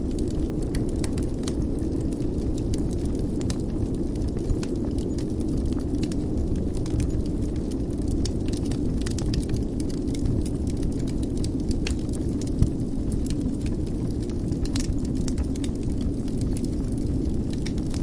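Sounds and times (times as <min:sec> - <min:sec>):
wood fire crackling: 0:00.0 - 0:18.0
sharp pops from fire: 0:00.1 - 0:18.0.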